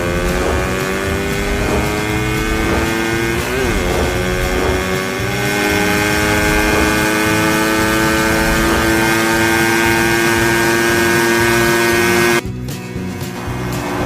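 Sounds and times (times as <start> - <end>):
cartoon motorcycle engine drone: 0.0 - 12.4.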